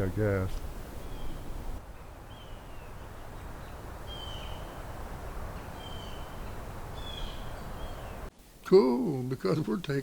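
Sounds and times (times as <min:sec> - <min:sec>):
woodland ambience: 0:00.0 - 0:10.0.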